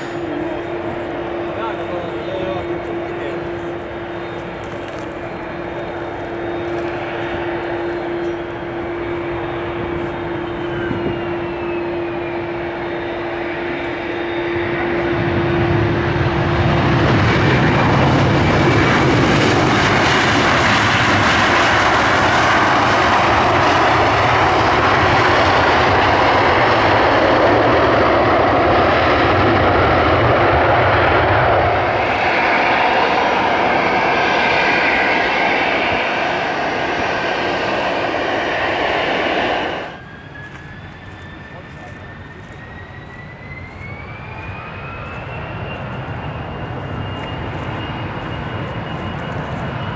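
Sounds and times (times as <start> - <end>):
jet engines roaring: 0.0 - 49.9.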